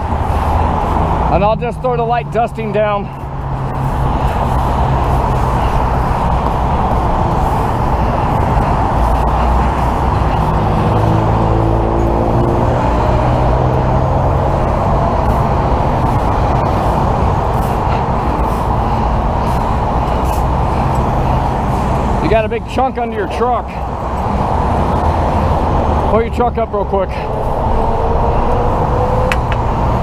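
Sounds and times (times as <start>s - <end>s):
freeway traffic: 0.0s - 30.0s
truck engine running: 0.0s - 30.0s.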